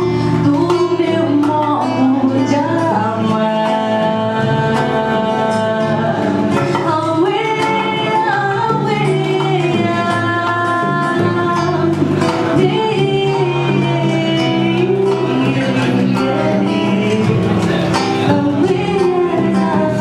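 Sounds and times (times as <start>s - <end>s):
instrumental accompaniment: 0.0s - 20.0s
woman singing wordless long notes: 0.0s - 20.0s.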